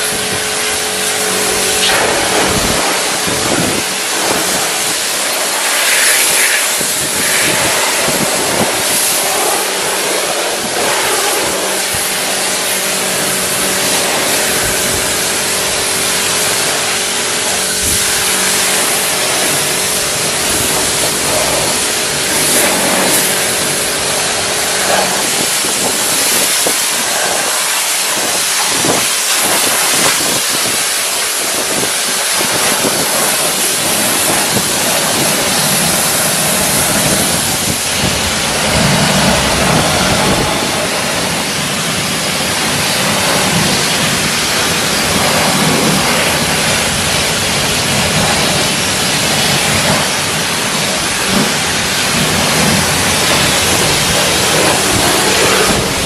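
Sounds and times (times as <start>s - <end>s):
machine hum: 0.0s - 26.4s, 33.3s - 56.0s
pressure washer jet hissing: 0.0s - 56.0s.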